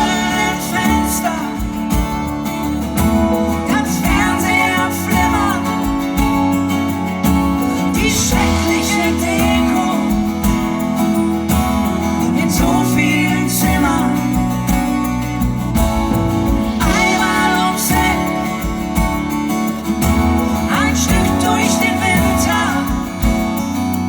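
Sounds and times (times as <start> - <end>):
acoustic band music: 0.0 - 24.0.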